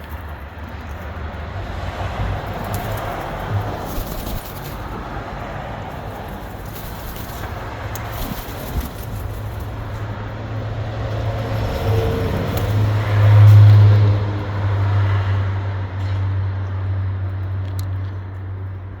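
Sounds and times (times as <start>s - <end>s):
vehicle passing: 0.0s - 18.9s.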